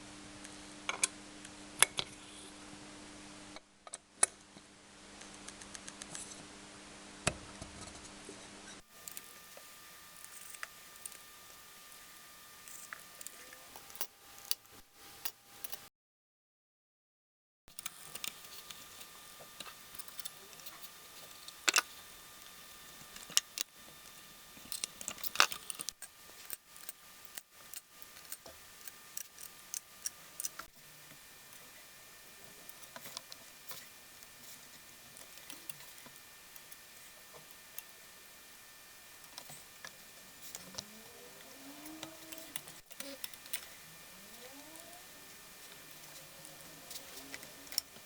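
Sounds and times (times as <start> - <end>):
faint high hum: 0.0 - 7.2, 7.9 - 15.9, 17.7 - 48.0.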